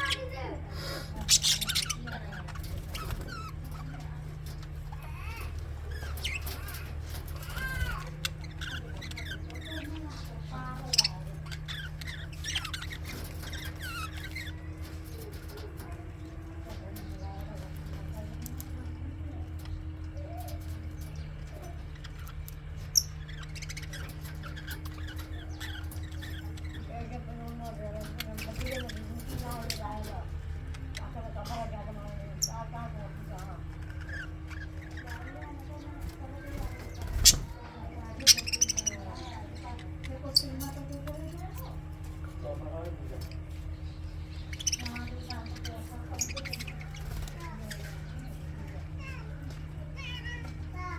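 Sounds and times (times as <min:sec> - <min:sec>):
budgerigars chirping: 0:00.0 - 0:50.8
steady low hum: 0:00.0 - 0:50.9.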